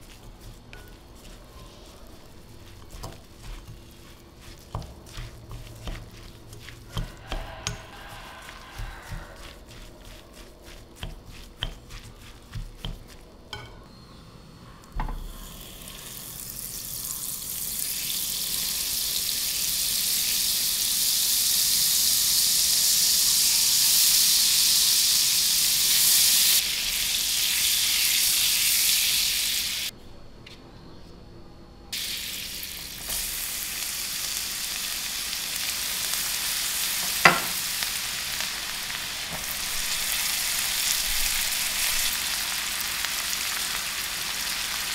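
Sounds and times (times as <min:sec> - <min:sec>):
butter sizzling in frying pan: 0:00.0 - 0:13.3, 0:15.2 - 0:29.9, 0:32.0 - 0:44.9
garlic frying in bubbling butter: 0:00.0 - 0:13.7, 0:15.2 - 0:29.9, 0:32.0 - 0:44.9.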